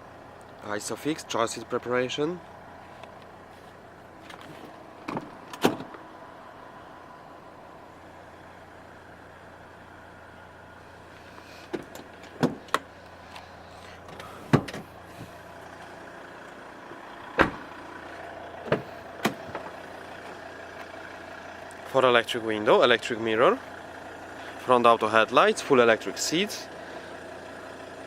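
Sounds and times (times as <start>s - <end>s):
low hum inside car: 0.0s - 24.4s.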